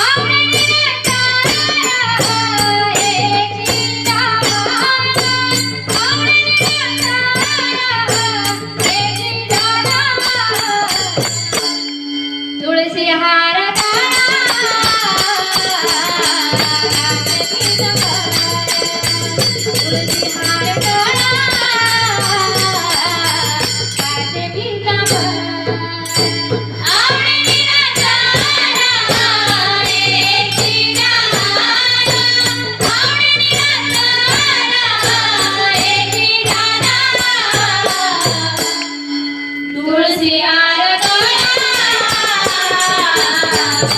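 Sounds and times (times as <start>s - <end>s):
group singing devotional song: 0.0s - 11.7s, 12.7s - 39.1s, 39.8s - 43.9s
sharp rhythmic strikes: 0.0s - 12.6s, 13.7s - 43.9s.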